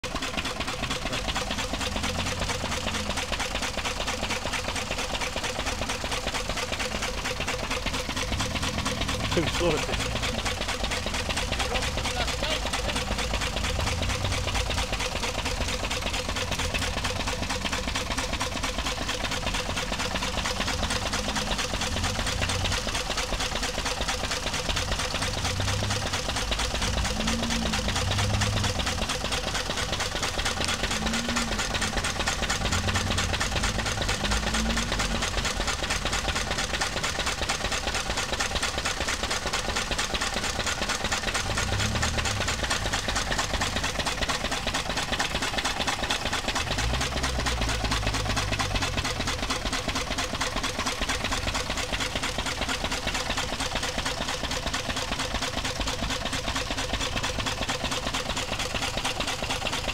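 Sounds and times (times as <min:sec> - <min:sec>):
stationary diesel engine running: 0:00.0 - 0:59.9.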